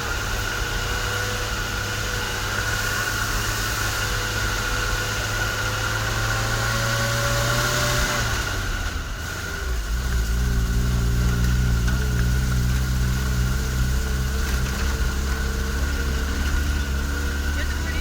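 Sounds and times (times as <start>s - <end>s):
off-road vehicle engine droning: 0.0s - 18.0s.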